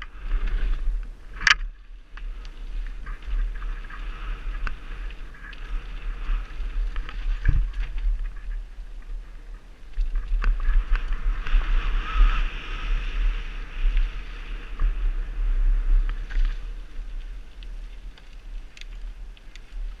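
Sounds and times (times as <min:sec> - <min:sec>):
bike clicks and rattles: 0:00.0 - 0:20.0
wind rumbling on microphone: 0:00.0 - 0:20.0.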